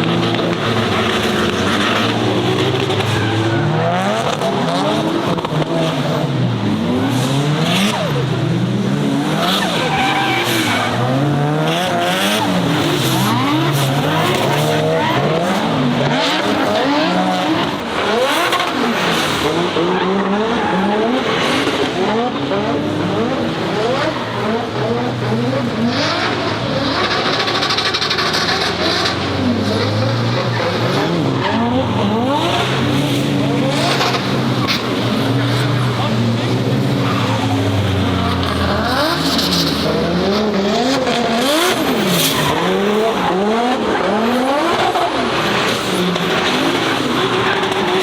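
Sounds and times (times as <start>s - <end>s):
car engine revving: 0.0s - 48.0s
tyres squealing and skidding: 0.0s - 48.0s.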